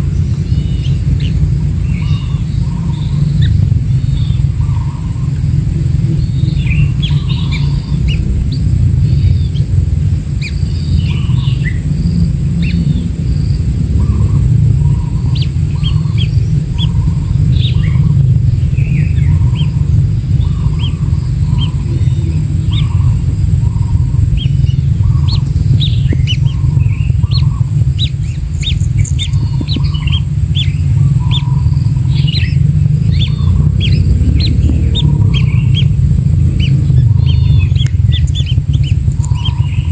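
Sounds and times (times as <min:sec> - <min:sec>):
faint high whine: 0:00.0 - 0:39.9
high bird chirps: 0:00.0 - 0:39.9
steady low rumble: 0:00.0 - 0:39.9.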